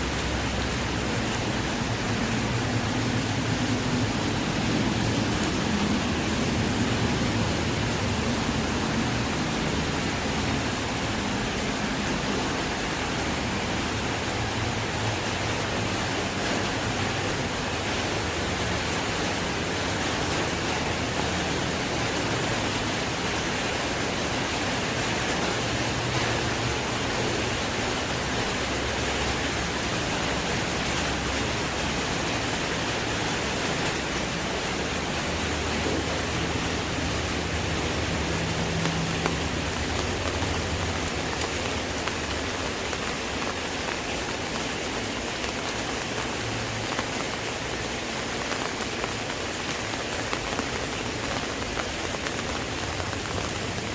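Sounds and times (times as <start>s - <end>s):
rain falling on an umbrella: 0.0s - 53.9s.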